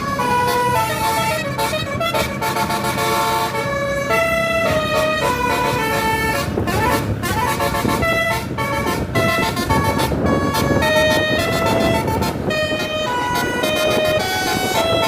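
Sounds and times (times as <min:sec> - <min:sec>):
bus horn playing a melody: 0:00.0 - 0:15.0
siren-like wail: 0:02.6 - 0:15.0.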